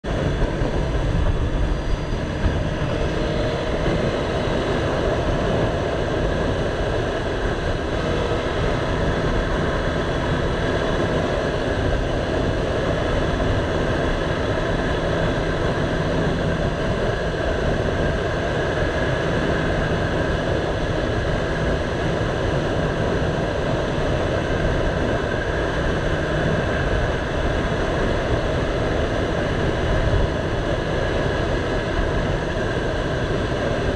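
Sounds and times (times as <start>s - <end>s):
motorcycle engine running: 0.0s - 33.9s
wind rush over microphone: 0.0s - 33.9s.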